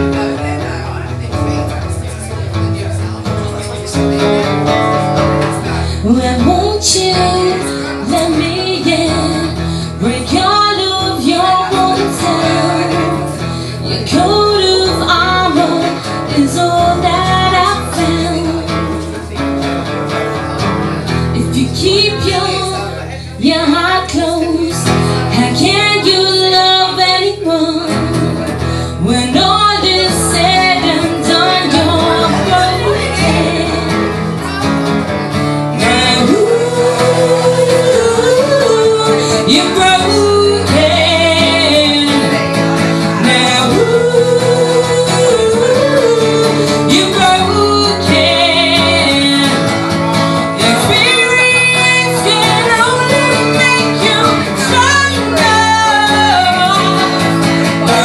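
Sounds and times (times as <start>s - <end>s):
strummed acoustic guitar: 0.0s - 58.0s
woman singing a ballad: 5.8s - 19.3s, 21.4s - 34.4s, 35.6s - 58.0s.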